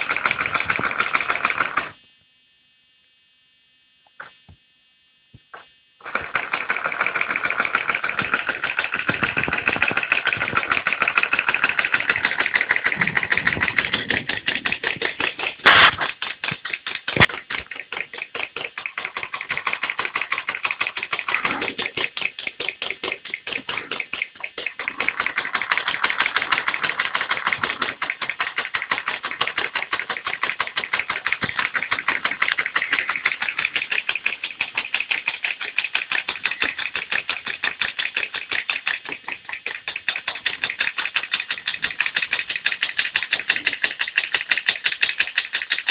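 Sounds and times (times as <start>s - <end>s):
electric motor piston clatter: 0.0s - 2.0s, 5.5s - 45.9s.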